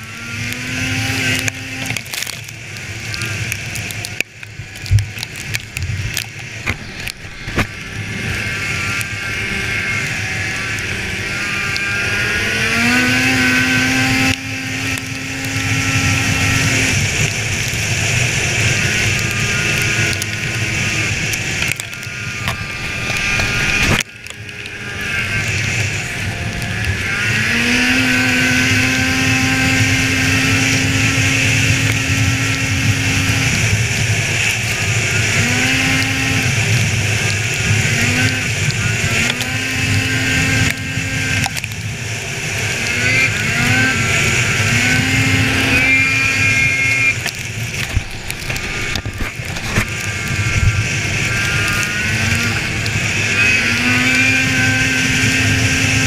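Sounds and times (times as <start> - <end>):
snowmobile engine revving: 0.0 - 56.0
steady rush of noise: 0.0 - 56.0.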